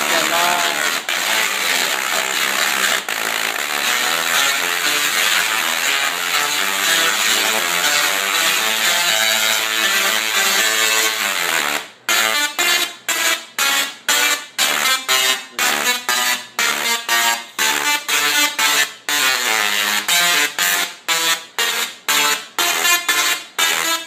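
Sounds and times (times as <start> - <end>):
tesla coil buzzing a tune: 0.0 - 24.0.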